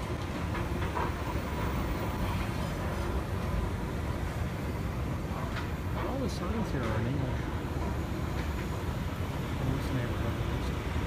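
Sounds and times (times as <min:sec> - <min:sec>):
escalator mechanical rumble: 0:00.0 - 0:11.0.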